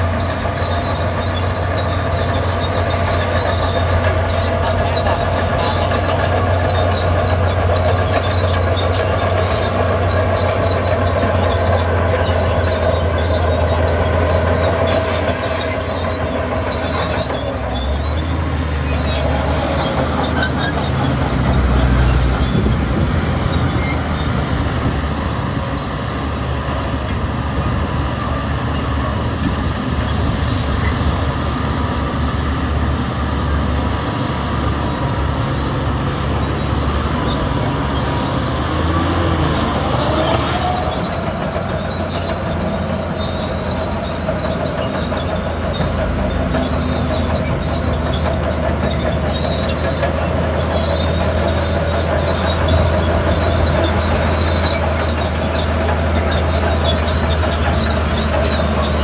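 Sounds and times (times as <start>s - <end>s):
diesel machinery engine drone: 0.0s - 59.0s
high squeak: 0.1s - 32.4s, 33.3s - 59.0s.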